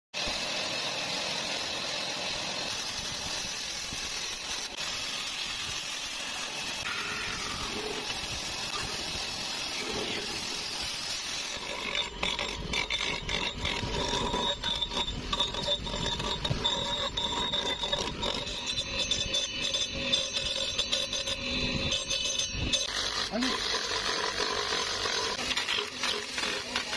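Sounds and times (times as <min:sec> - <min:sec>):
bandsaw humming: 0:00.2 - 0:26.9
wood grinding on spinning disc: 0:00.2 - 0:26.9.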